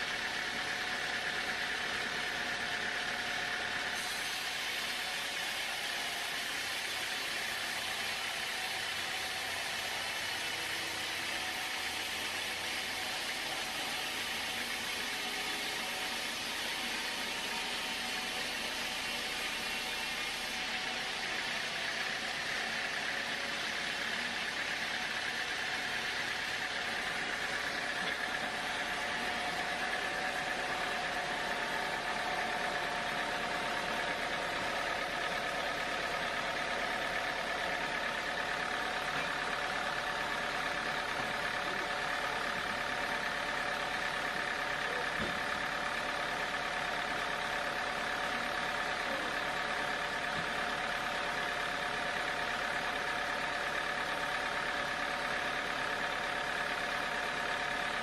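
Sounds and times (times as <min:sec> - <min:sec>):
constant machine whine: 0:00.0 - 0:58.0
sawmill machine hum: 0:00.0 - 0:58.0.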